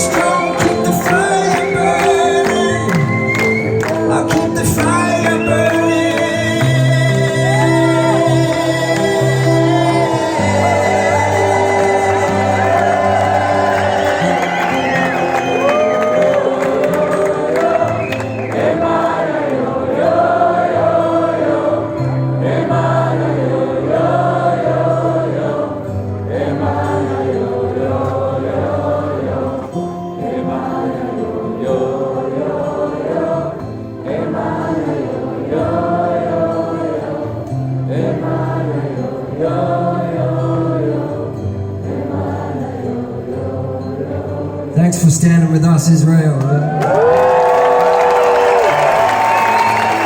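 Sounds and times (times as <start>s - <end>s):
wordless group singing: 0.0s - 45.1s.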